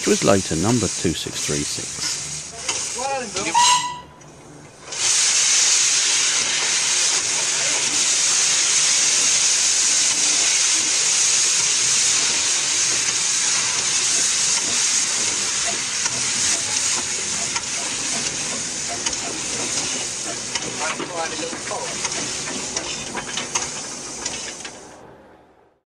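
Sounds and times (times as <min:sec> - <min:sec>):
steam locomotive hissing: 0:00.0 - 0:04.2, 0:04.8 - 0:25.0.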